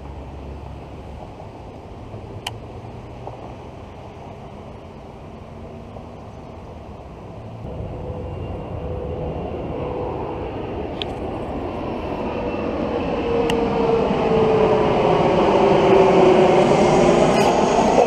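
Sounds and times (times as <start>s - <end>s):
vehicle engine rumble approaching: 0.0s - 18.0s.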